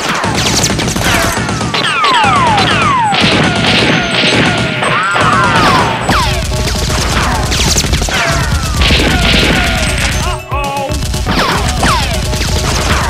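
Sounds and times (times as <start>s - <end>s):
rapid gunfire: 0.0s - 13.0s.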